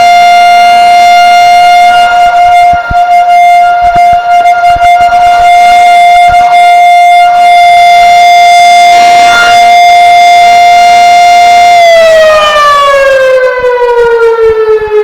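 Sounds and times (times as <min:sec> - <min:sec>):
rotor siren steady tone: 0:00.0 - 0:15.0.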